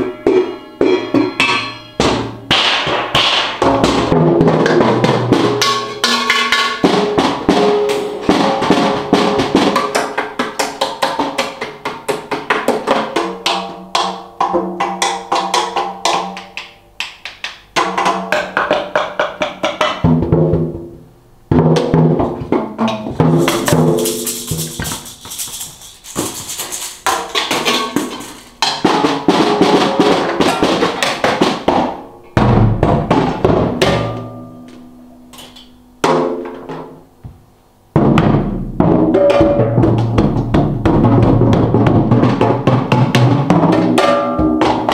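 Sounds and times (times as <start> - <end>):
drum solo on snare and toms: 0.0 - 16.4, 17.7 - 34.4, 37.9 - 44.9.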